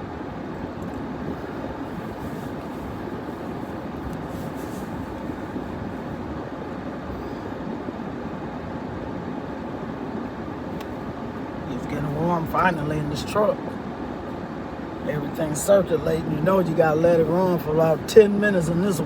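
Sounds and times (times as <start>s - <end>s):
heater running: 0.0s - 19.0s.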